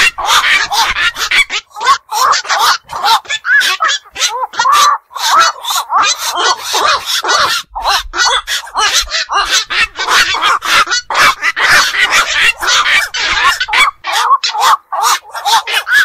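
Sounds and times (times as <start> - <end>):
heron calls: 0.0 - 16.0.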